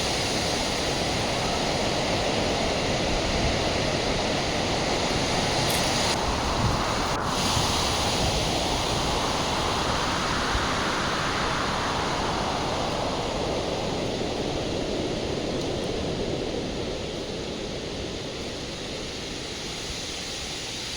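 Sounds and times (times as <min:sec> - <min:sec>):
gusty wind rushing: 0:00.0 - 0:20.9
wind buffeting microphone: 0:00.0 - 0:20.9.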